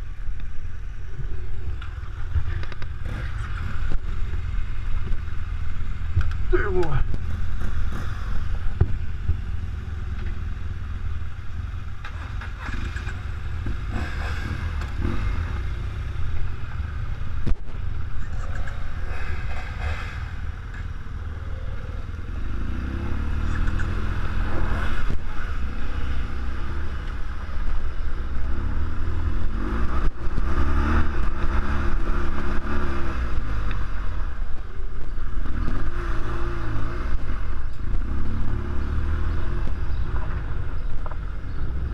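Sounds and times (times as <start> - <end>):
motorcycle engine revving: 1.0 - 41.9.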